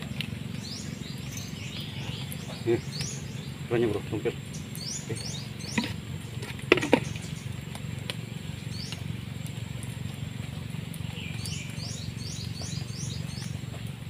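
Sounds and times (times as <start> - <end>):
bird chirping: 0.0 - 9.2, 10.9 - 13.9.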